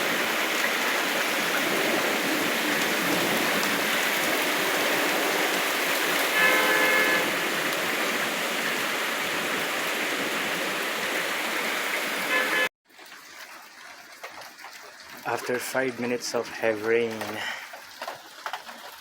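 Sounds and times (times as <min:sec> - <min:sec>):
heavy rain pouring: 0:00.0 - 0:12.7, 0:15.2 - 0:19.0.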